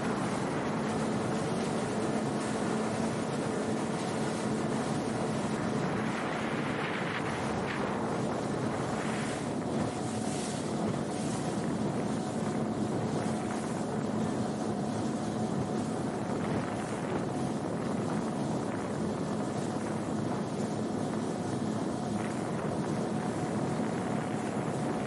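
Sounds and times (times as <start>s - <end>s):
boat motor humming: 0.0s - 25.0s
water rushing along hull: 0.0s - 25.0s
wind buffeting microphone: 0.0s - 25.0s.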